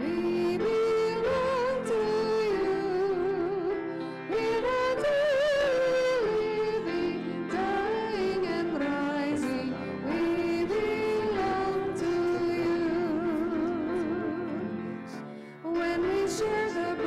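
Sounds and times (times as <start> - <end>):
hymn singing with instruments: 0.0 - 17.0.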